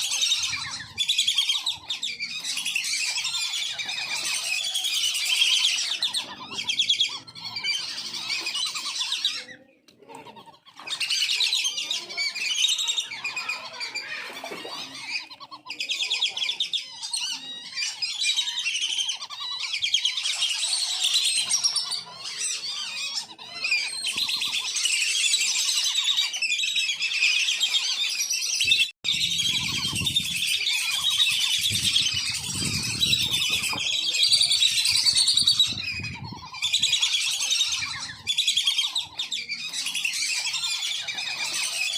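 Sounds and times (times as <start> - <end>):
ducks whistling calls: 0.0 - 41.9.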